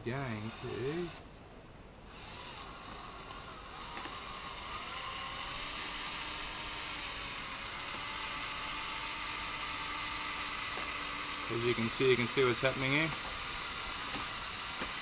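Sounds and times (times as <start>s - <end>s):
electric drill running: 0.2s - 1.2s, 2.1s - 15.0s.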